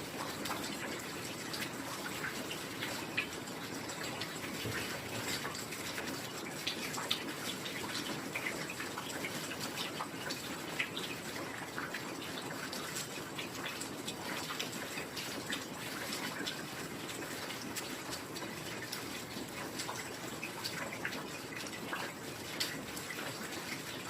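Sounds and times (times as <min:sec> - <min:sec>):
raindrops pattering and dripping: 0:00.0 - 0:24.0.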